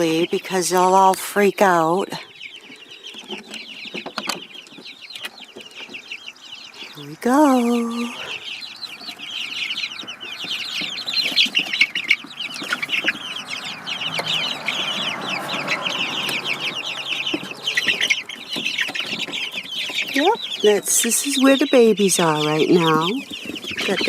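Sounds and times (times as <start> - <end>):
chicks peeping and chirping: 0.0 - 24.0.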